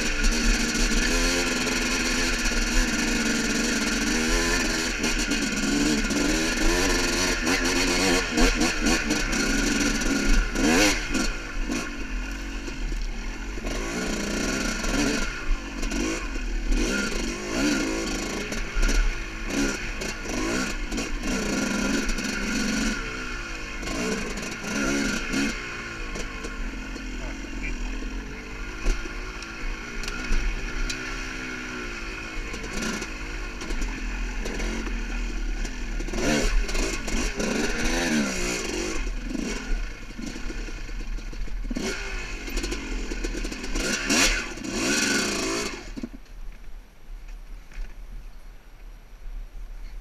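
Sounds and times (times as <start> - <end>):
dirt bike engine revving: 0.0 - 46.2.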